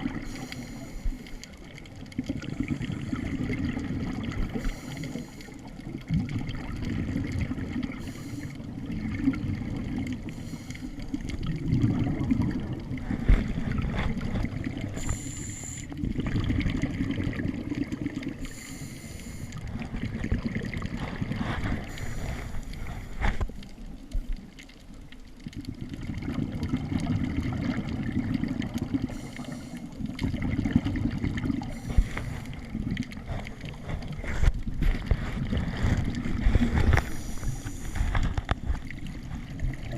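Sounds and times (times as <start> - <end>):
scuba exhaust bubbles hissing: 0.0 - 23.6, 25.6 - 34.5, 35.2 - 39.9
water gurgling underwater: 0.0 - 39.9.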